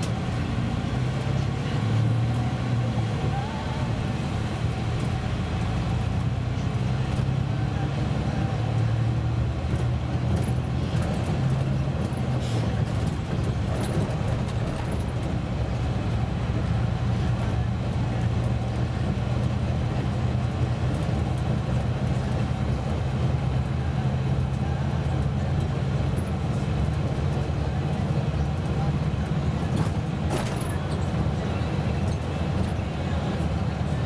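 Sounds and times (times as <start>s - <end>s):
bus diesel engine running: 0.0s - 34.0s
tyre and road noise: 0.0s - 34.0s.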